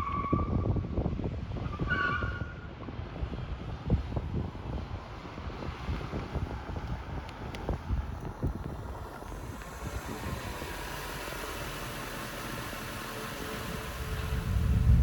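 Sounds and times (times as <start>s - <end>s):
wind buffeting microphone: 0.0s - 15.0s
car rushing and rumbling: 1.1s - 15.0s.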